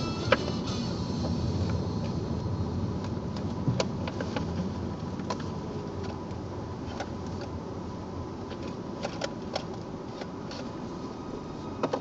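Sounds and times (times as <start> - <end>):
engine and tyre hum: 0.0 - 12.0.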